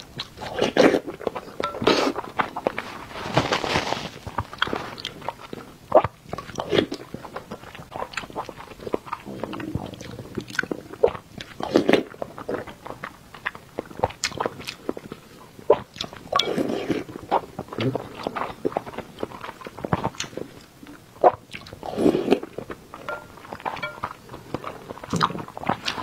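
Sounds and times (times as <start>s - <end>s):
wet chewing: 4.2s - 26.0s.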